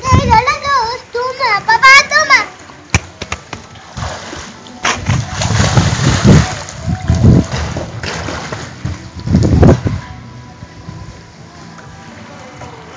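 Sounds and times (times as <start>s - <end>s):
pool water splashing: 0.0s - 12.9s.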